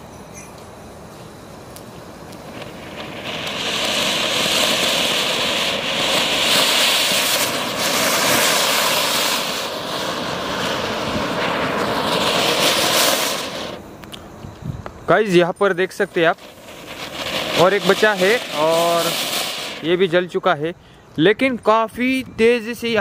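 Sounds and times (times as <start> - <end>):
fountain fireworks hissing: 0.0 - 23.0.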